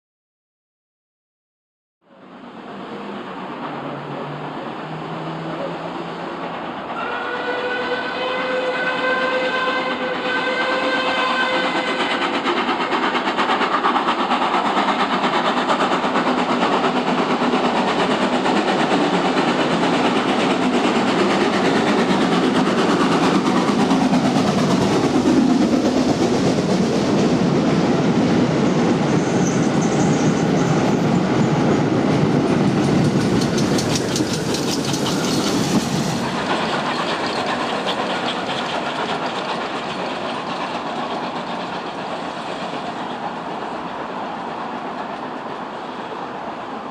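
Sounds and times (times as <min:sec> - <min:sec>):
train wheels on rails: 0:02.2 - 0:46.9
clickety-clack over rail joints: 0:03.2 - 0:46.4.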